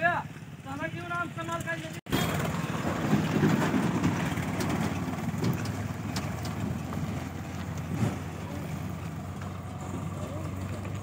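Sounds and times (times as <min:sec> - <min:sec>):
diesel tractor engine running: 0:02.1 - 0:11.0.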